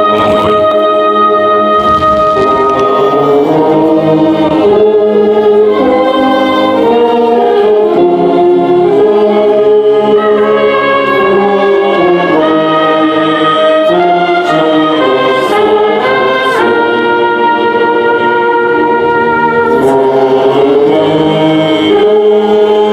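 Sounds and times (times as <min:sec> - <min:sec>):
choir singing sustained chords: 0:00.0 - 0:22.9.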